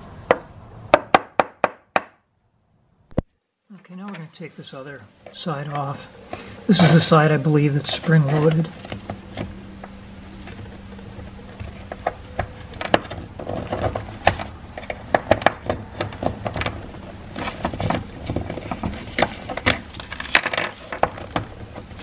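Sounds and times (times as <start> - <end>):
faint steady hum: 2.3 - 22.0.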